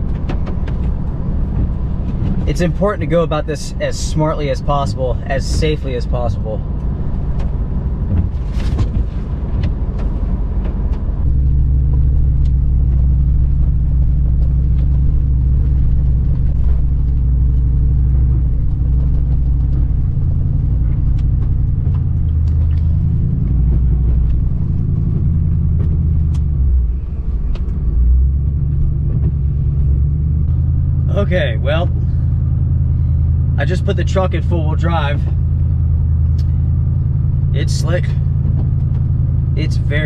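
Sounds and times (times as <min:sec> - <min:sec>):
truck engine and tyre rumble: 0:00.0 - 0:40.0.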